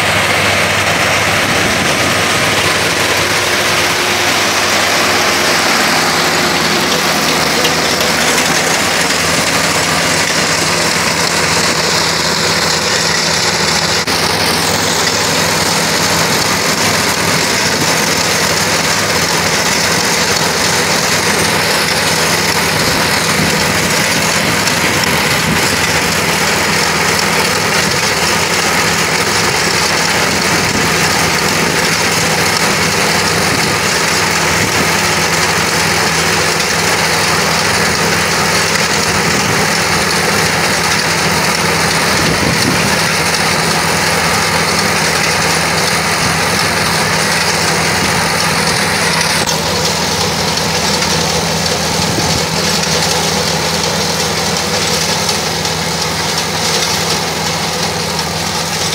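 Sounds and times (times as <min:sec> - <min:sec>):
combine harvester drone: 0:00.0 - 0:58.9.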